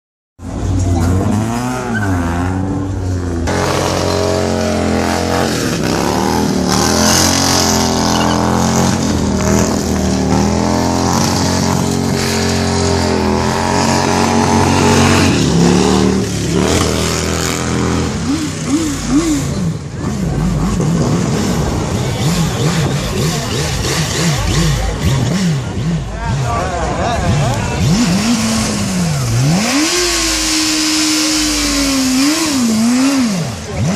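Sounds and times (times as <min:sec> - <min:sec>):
engine revving hard: 0:01.0 - 0:33.9.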